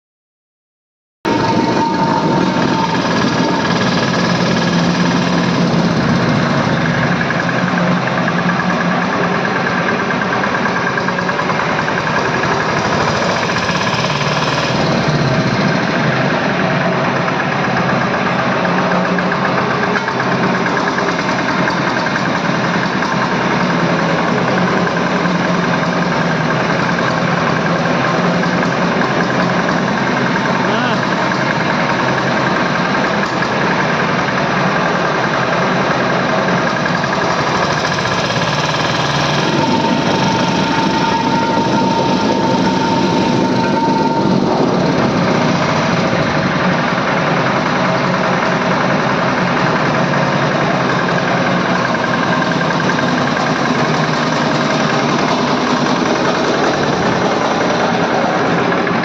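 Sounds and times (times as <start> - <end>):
road roller engine running: 1.3 - 59.0.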